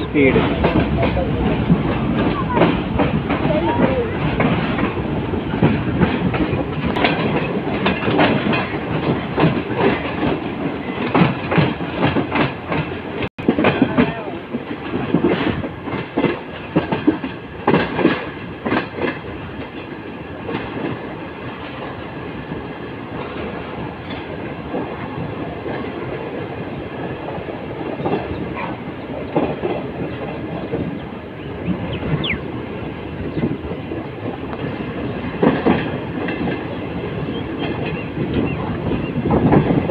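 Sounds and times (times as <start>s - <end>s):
train rumble: 0.0s - 39.9s
train wheels clattering over joints: 0.0s - 39.9s.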